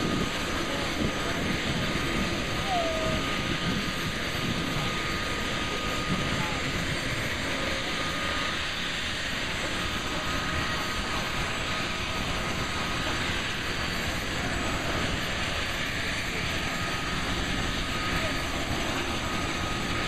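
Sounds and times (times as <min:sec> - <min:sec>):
helicopter engines and rotors running: 0:00.0 - 0:20.0.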